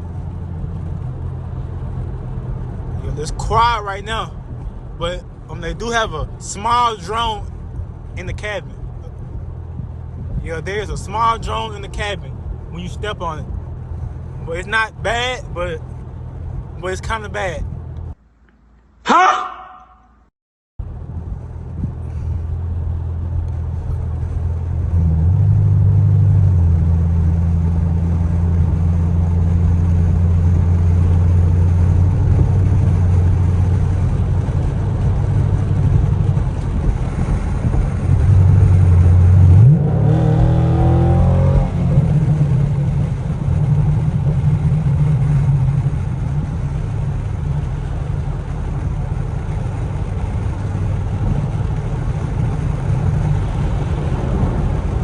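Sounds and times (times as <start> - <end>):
deep car exhaust drone: 0.0 - 55.0.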